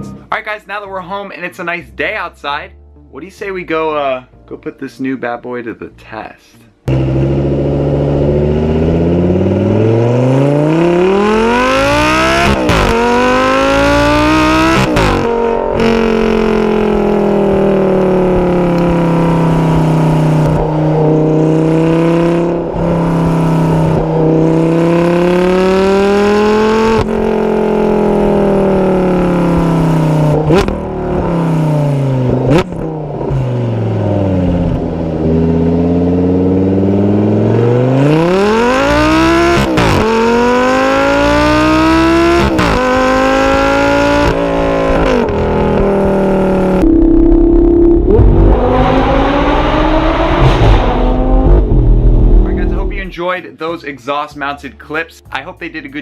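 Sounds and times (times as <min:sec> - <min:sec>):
sports car exhaust revving: 0:06.9 - 0:53.2.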